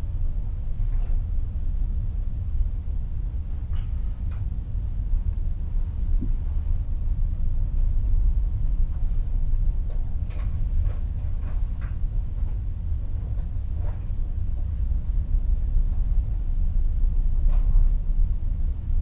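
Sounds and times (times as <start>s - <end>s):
ship engine low rumble: 0.0s - 19.0s.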